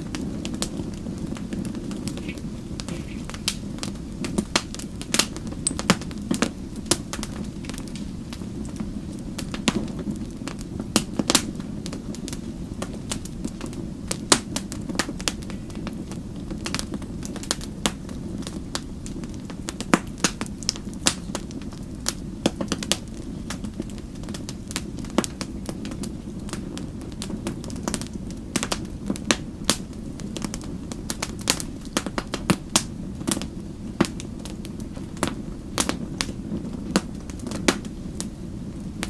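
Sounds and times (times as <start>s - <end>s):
low rumble of flames: 0.0s - 39.0s
wood fire crackling and popping: 0.0s - 39.0s.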